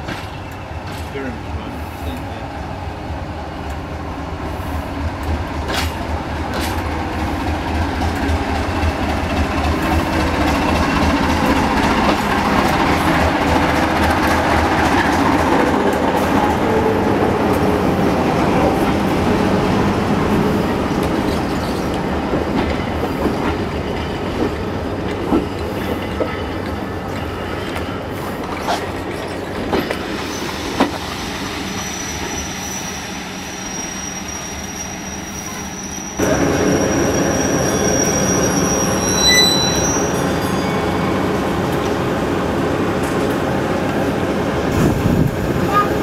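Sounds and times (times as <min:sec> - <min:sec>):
diesel train running past: 0:00.0 - 0:46.0.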